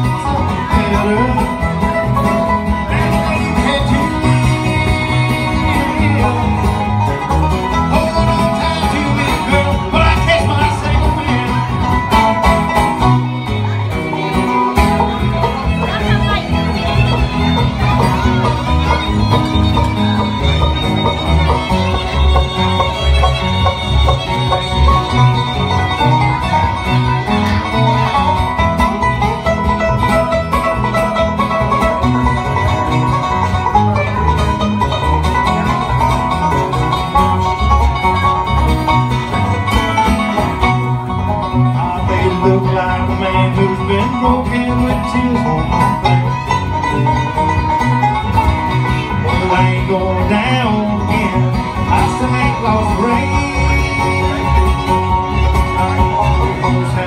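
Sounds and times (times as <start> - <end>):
bluegrass band playing: 0.0 - 57.0.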